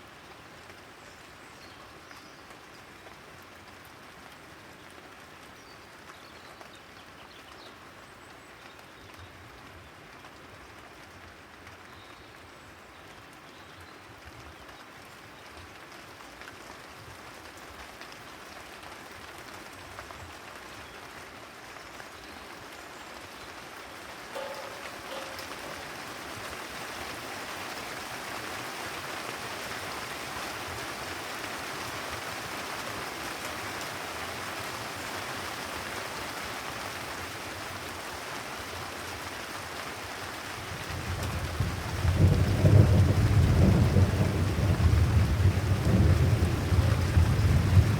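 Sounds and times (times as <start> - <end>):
rain falling on a terrace: 0.0 - 47.9.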